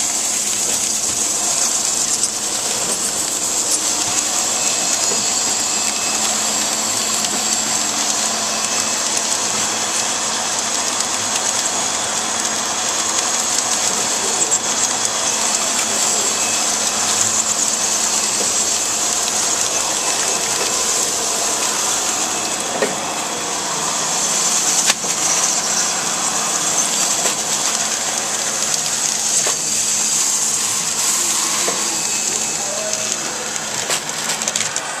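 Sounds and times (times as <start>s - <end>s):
sharp machine clicks: 0.0s - 23.4s, 24.0s - 34.8s
packaging machine hiss and hum: 0.0s - 35.0s.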